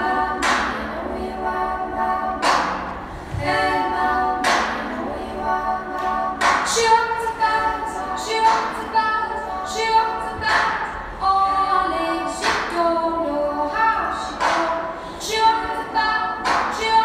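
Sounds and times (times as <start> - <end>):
slow vocal harmonies: 0.0 - 17.0.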